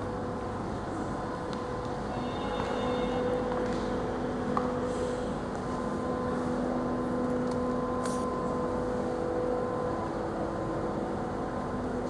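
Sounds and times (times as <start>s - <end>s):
electrical hum and fan drone: 0.0s - 12.0s.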